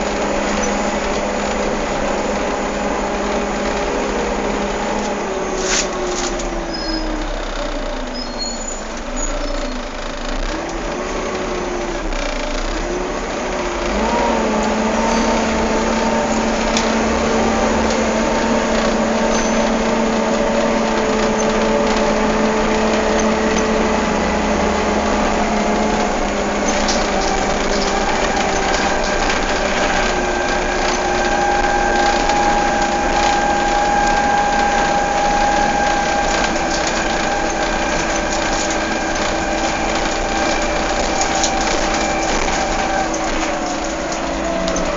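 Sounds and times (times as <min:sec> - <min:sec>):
engine cooling fan whining: 0:00.0 - 0:08.2, 0:08.8 - 0:44.9
bus engine running: 0:00.0 - 0:44.9.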